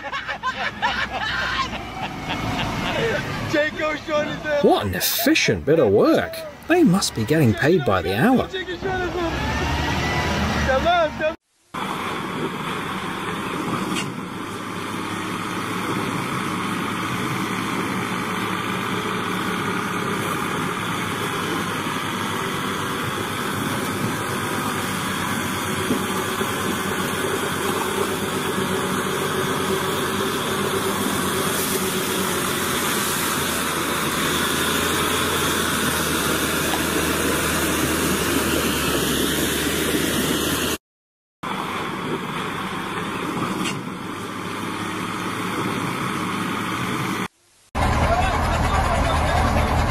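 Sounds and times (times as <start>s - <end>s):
engine running steadily: 0.6s - 40.8s, 41.4s - 49.9s.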